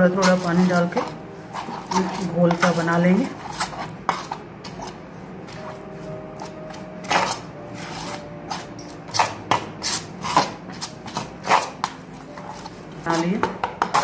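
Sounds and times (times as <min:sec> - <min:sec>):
batter mixing scraping in bowl: 0:00.0 - 0:05.8, 0:06.4 - 0:14.0.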